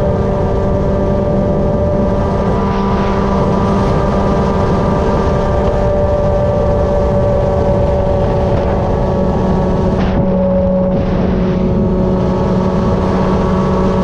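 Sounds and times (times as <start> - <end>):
engine running loudly: 0.0 - 14.0.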